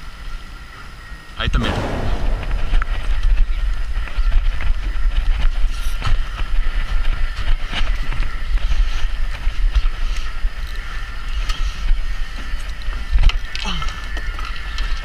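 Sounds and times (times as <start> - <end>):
wind buffeting microphone: 1.4 - 13.5.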